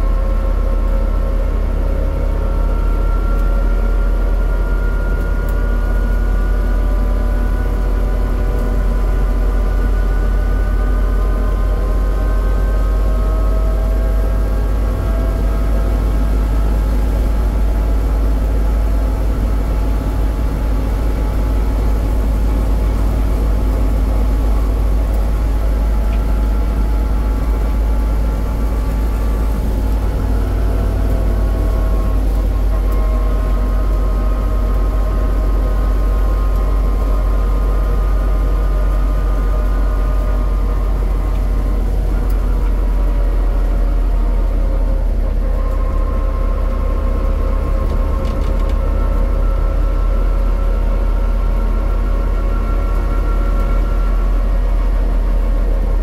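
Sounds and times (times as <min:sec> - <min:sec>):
multi-tone vehicle whine: 0:00.0 - 0:56.0
wind rumble on microphone: 0:00.0 - 0:56.0.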